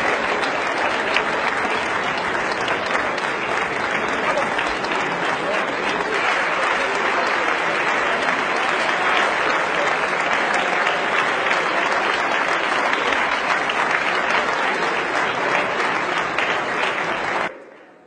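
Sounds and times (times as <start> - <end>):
large crowd applauding: 0.0 - 18.0.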